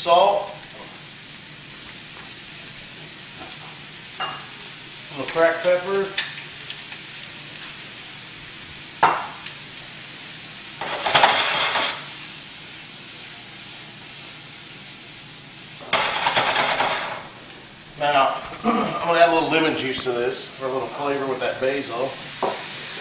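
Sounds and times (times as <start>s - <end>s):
vegetables sizzling in frying pan: 0.0s - 23.0s.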